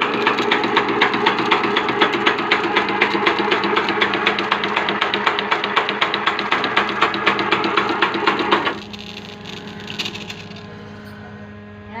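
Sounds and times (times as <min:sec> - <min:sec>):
rapid mechanical clatter: 0:00.0 - 0:11.0
machine hum: 0:00.0 - 0:12.0.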